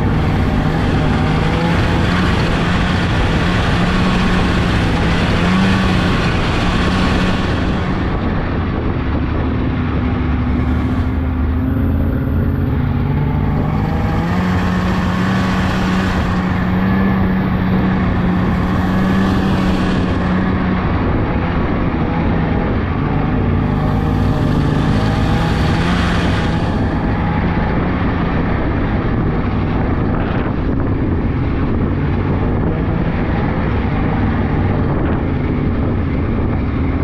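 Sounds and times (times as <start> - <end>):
snowmobile engine running: 0.0 - 37.0
wind and track noise: 0.0 - 37.0.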